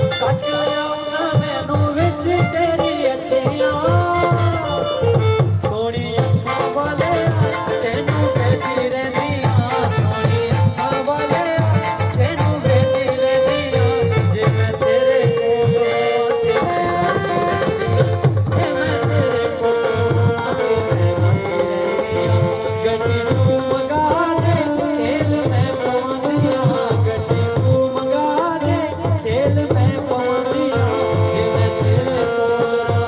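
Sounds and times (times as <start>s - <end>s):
hand drum rhythm: 0.0s - 33.0s.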